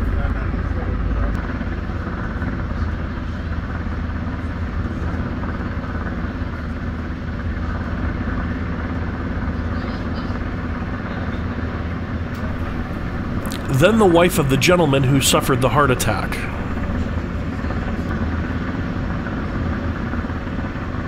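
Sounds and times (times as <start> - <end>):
helicopter hovering overhead: 0.0 - 21.0.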